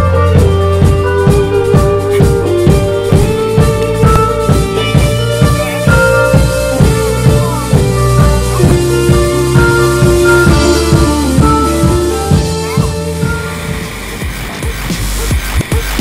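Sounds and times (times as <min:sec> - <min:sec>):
background music with drum beat: 0:00.0 - 0:16.0.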